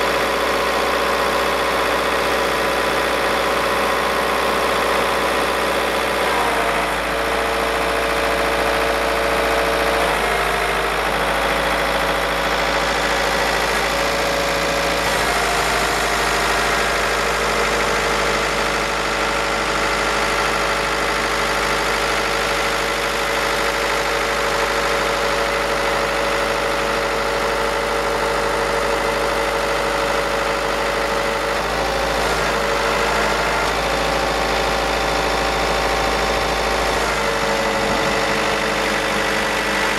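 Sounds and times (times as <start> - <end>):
hydraulic whine: 0.0 - 39.9
truck engine running: 0.0 - 39.9.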